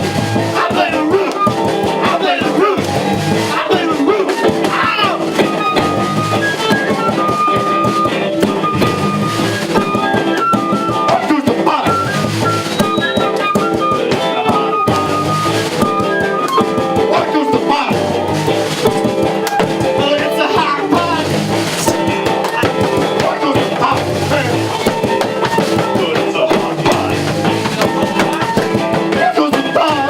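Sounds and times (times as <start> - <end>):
drum kit: 0.0 - 30.0
electric guitar: 0.0 - 30.0.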